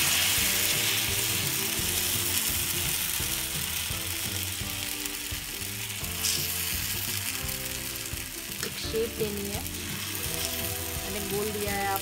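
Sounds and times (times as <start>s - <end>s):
batter sizzling: 0.0s - 12.0s.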